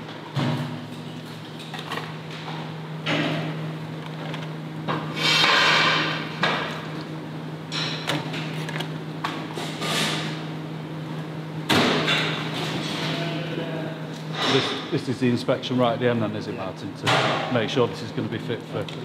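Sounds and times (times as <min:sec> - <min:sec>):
steady machinery hum: 0:00.0 - 0:19.0.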